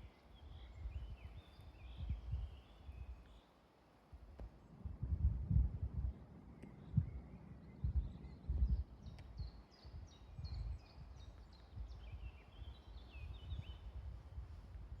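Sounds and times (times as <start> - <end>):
wind rumbling on microphone: 0.0 - 3.4, 4.1 - 15.0.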